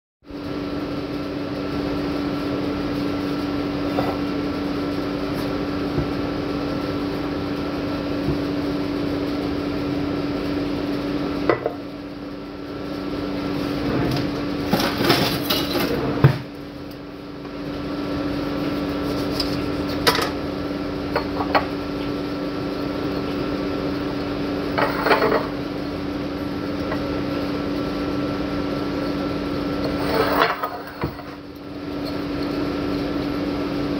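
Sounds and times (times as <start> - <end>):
appliance humming: 0.3 - 33.9.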